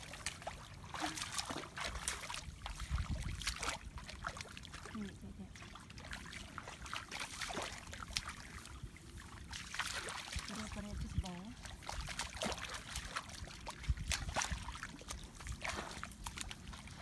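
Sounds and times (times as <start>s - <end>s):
splashing in shallow muddy water: 0.0s - 17.0s.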